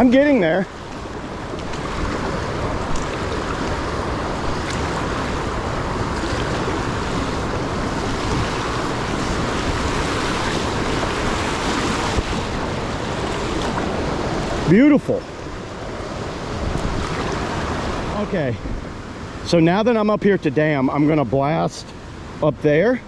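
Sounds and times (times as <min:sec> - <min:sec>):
river rapids rushing: 0:00.0 - 0:19.8.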